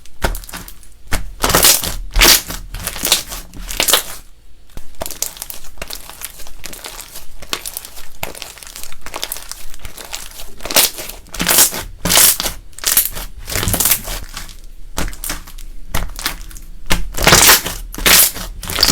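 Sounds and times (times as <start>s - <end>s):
slime squished by hand: 0.2s - 4.2s, 5.0s - 18.9s.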